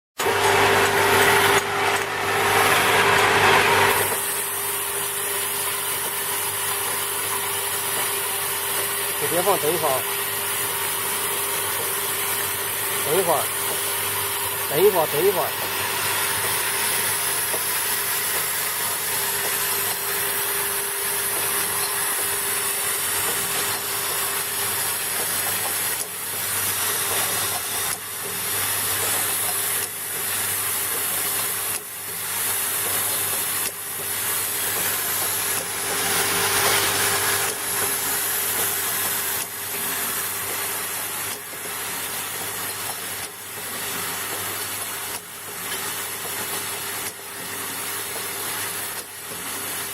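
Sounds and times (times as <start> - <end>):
filling machine humming and hissing: 0.2 - 49.9.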